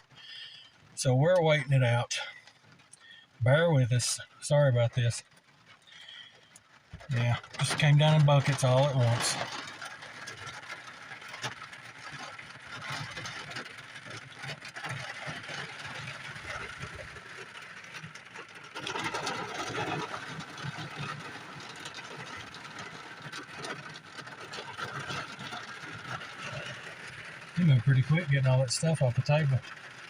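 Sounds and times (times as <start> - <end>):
heavy rain downpour: 0.0 - 30.0.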